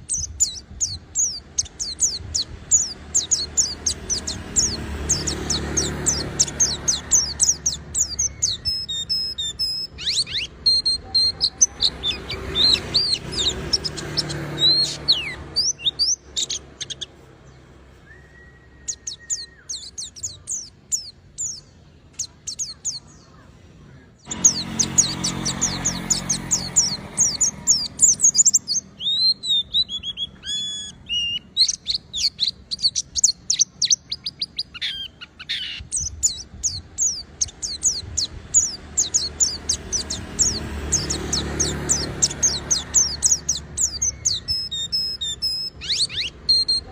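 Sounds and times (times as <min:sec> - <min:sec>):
birds twittering chirps and trills: 0:00.0 - 0:46.9.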